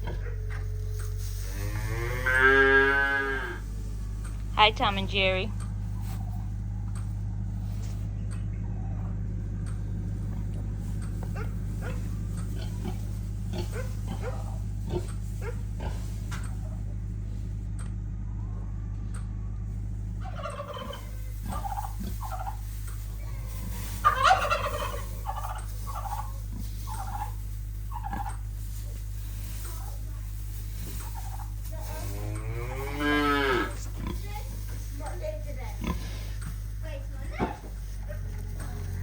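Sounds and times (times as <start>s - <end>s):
turkeys gobbling: 0.0s - 4.5s, 5.5s - 17.5s, 18.2s - 39.0s
steady low hum: 0.0s - 39.0s.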